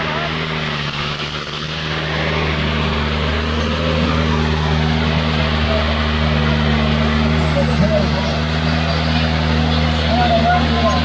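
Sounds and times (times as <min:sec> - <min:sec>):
tractor diesel engine running hard: 0:00.0 - 0:11.0.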